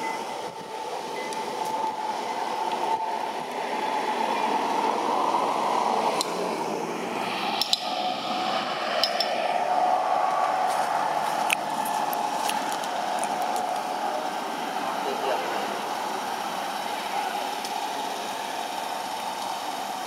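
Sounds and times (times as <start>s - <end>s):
mid-pitched hum: 0.0s - 20.0s.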